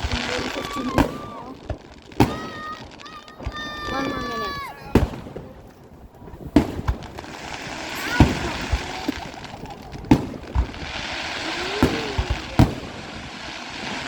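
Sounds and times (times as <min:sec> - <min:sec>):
fireworks bangs: 0:00.0 - 0:14.0
fireworks crackling hiss: 0:00.0 - 0:14.0.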